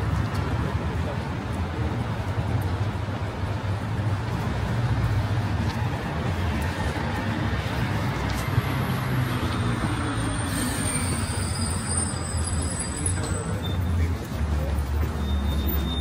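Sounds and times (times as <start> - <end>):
road traffic drone: 0.0 - 16.0.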